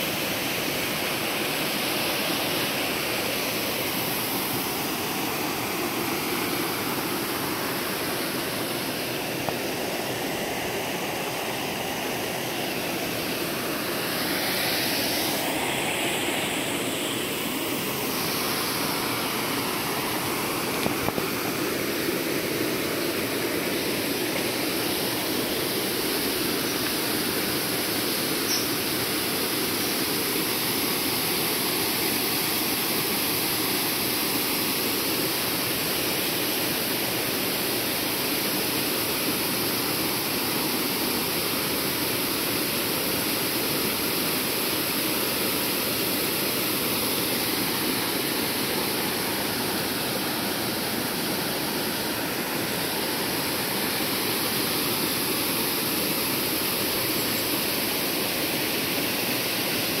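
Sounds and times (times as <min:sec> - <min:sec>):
waterfall rushing: 0:00.0 - 1:00.0.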